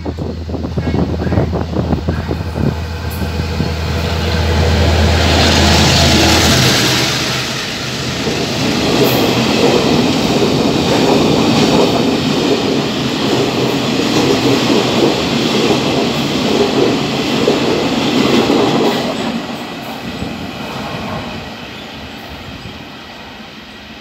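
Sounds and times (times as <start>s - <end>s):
freight train rumbling on rails: 0.0s - 24.0s.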